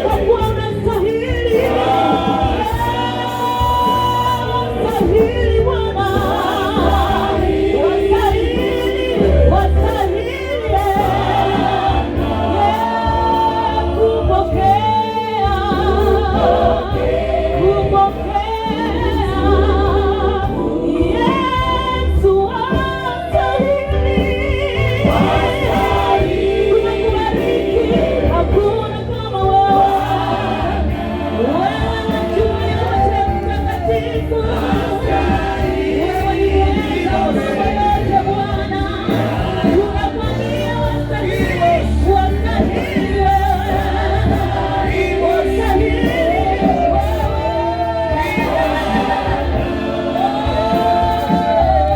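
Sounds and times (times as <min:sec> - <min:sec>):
gospel choir singing: 0:00.0 - 0:51.9
instrumental backing with bass line: 0:00.0 - 0:51.9.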